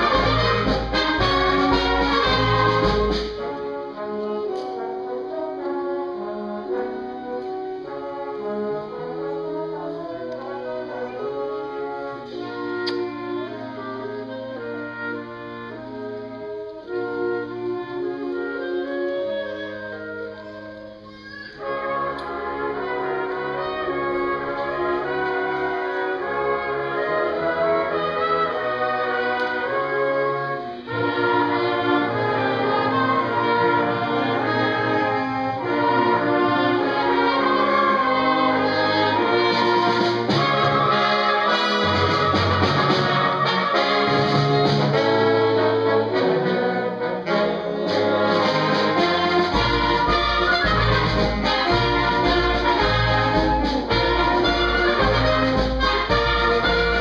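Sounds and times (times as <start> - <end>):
concert wind band playing: 0.0 - 57.0.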